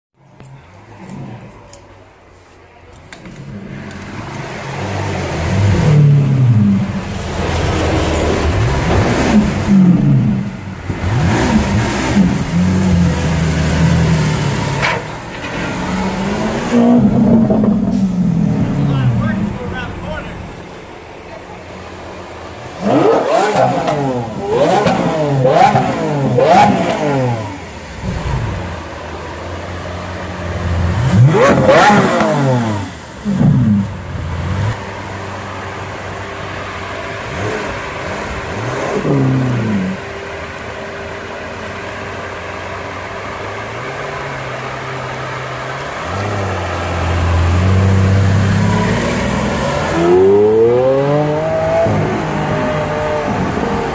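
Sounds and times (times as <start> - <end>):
car accelerating away: 3.0 - 53.9
car engine revving: 3.0 - 53.9.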